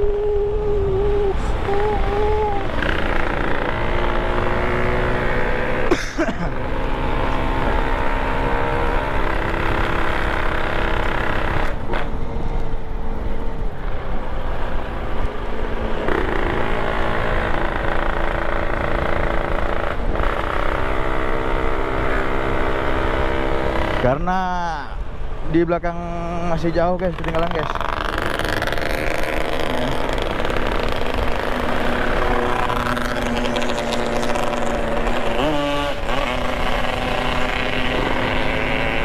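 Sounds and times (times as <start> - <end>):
motorcycle engine running: 0.0 - 12.2, 15.4 - 24.1, 26.4 - 39.0
wind and road noise: 0.0 - 39.0.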